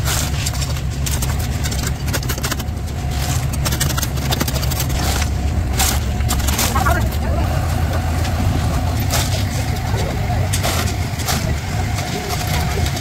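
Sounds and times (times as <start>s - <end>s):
cement mixer engine droning: 0.0s - 13.0s
knocks and scrapes of concrete: 0.0s - 13.0s.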